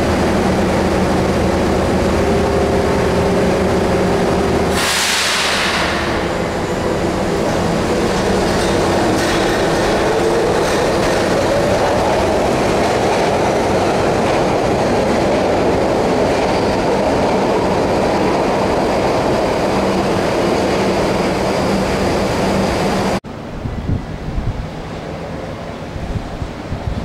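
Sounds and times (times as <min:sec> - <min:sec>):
train wheels and motors rumbling: 0:00.0 - 0:27.0.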